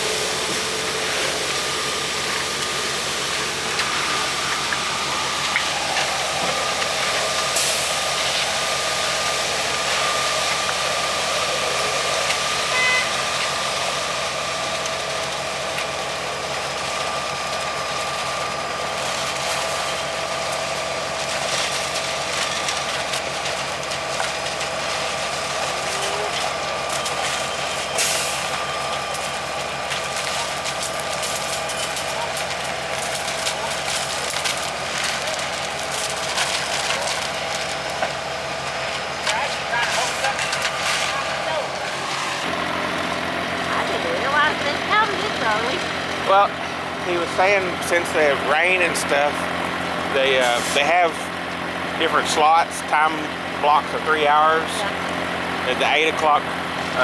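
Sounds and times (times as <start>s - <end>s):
diesel truck engines droning: 0.0s - 57.0s
steady whine: 0.0s - 57.0s.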